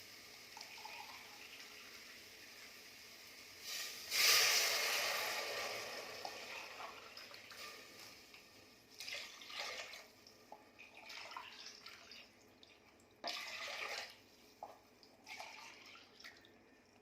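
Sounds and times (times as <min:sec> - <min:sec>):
liquid pouring and splashing: 0:00.3 - 0:02.5, 0:03.6 - 0:16.6.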